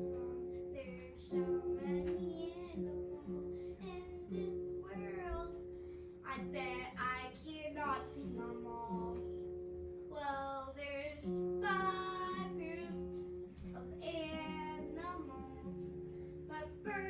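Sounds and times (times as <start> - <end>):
child singing: 0.0 - 9.3, 10.1 - 15.9, 16.5 - 17.0.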